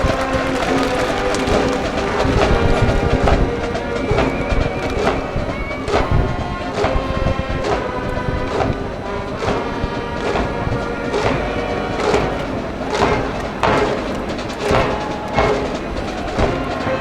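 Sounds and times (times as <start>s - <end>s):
brass band playing cheer tune: 0.0s - 17.0s
drum beat: 0.0s - 17.0s.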